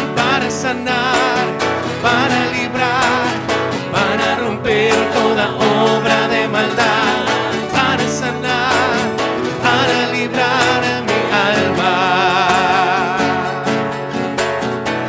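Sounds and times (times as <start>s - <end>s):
voice singing with vibrato: 0.0s - 14.1s
band with guitar playing: 0.0s - 15.0s.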